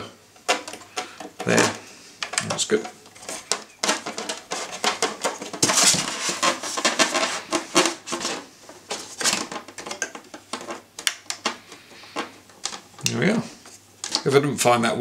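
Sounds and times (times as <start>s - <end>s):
rubbing on plastic: 0.5s - 14.2s.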